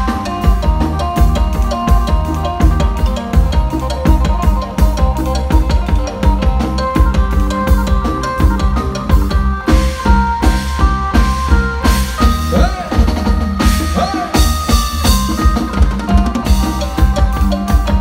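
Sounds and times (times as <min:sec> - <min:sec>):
drum kit beat: 0:00.0 - 0:18.0
electric lute melody: 0:00.0 - 0:18.0.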